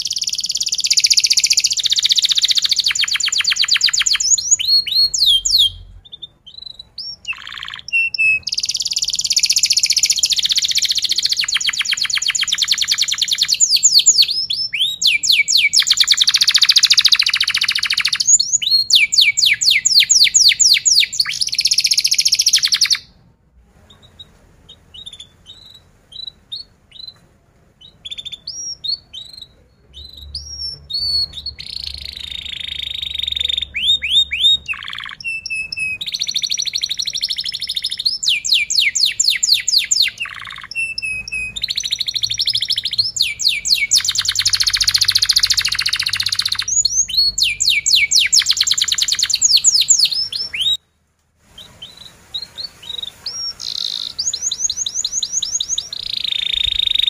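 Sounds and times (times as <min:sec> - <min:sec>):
canary trilling: 0:00.0 - 0:23.1, 0:27.8 - 0:50.8, 0:51.8 - 0:57.0
canary single chirps: 0:00.0 - 0:23.2, 0:23.9 - 0:27.2, 0:27.8 - 0:50.8, 0:51.6 - 0:57.0.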